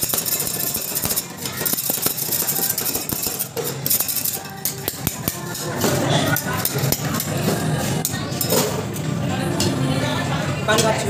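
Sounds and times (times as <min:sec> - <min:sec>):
metal spatulas scraping cold plate: 0:00.0 - 0:09.0.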